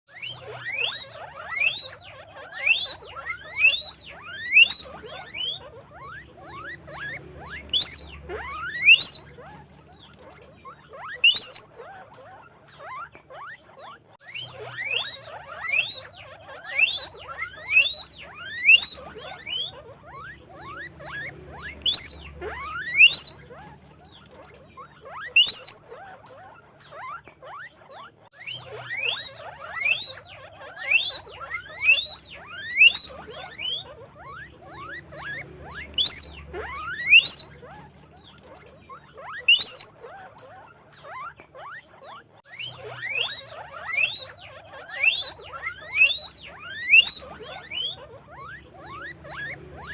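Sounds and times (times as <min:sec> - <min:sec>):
guinea pig wheeking: 0:00.1 - 0:49.9.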